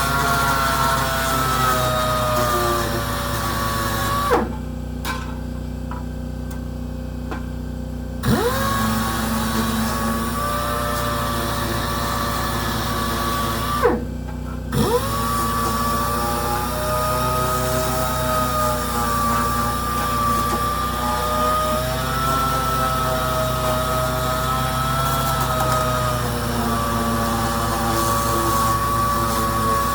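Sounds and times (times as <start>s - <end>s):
power sander running: 0.0s - 4.5s, 8.2s - 14.1s, 14.7s - 29.9s.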